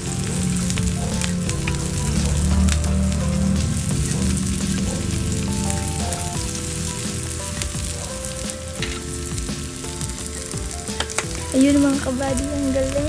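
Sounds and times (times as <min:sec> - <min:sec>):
onions sizzling in a pan: 0:00.0 - 0:13.0
stirring clicks: 0:00.0 - 0:13.0.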